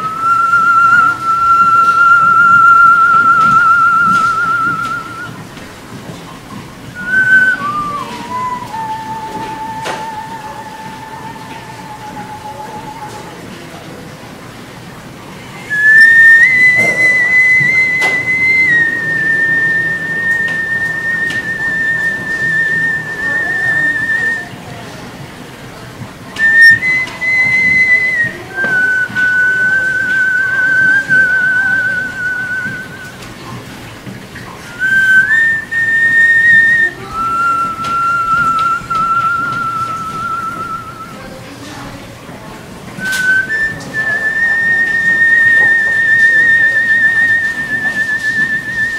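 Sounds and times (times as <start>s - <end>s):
person whistling: 0.0s - 5.4s, 7.0s - 13.9s, 15.5s - 24.8s, 26.4s - 33.2s, 34.7s - 41.4s, 43.0s - 48.9s.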